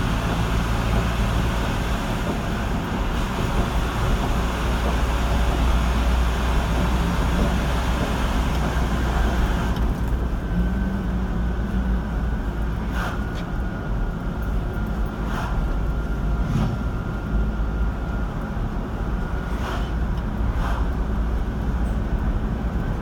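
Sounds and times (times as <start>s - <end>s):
car road rumble: 0.0s - 23.0s.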